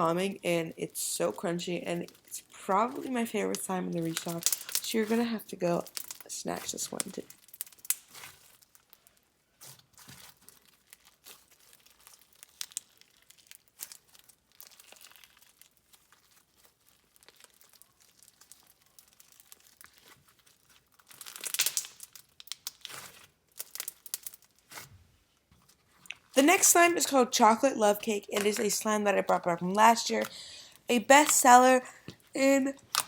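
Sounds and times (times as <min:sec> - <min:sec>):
slime crackling and popping: 0:00.0 - 0:24.9, 0:25.6 - 0:33.0.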